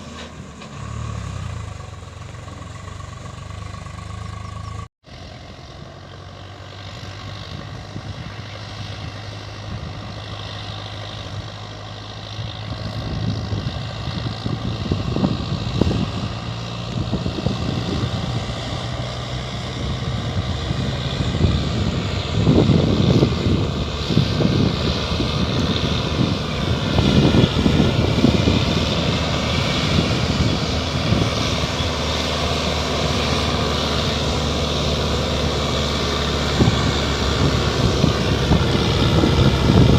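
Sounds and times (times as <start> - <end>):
tractor engine labouring: 0.0 - 39.9
low rumbling surges: 5.1 - 39.9.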